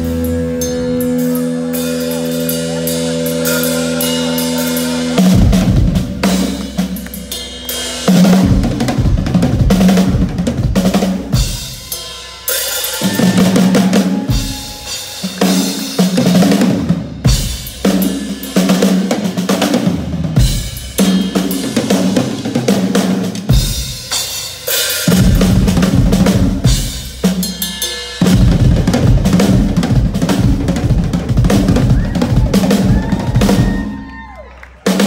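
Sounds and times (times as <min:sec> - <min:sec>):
rock drum kit played hard: 0:00.0 - 0:35.0.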